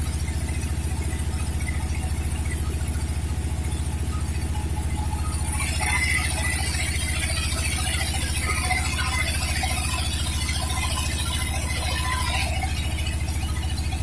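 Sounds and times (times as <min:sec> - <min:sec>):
sawmill engine running: 0:00.0 - 0:14.0.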